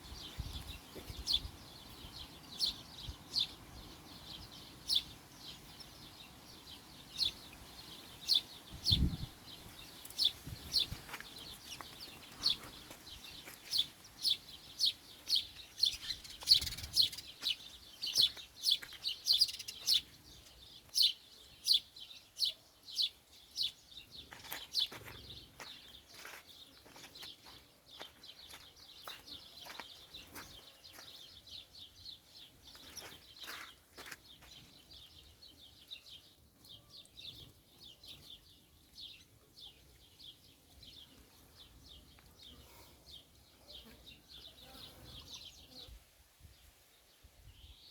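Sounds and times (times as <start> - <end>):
small bird chirping: 0.1 - 46.0.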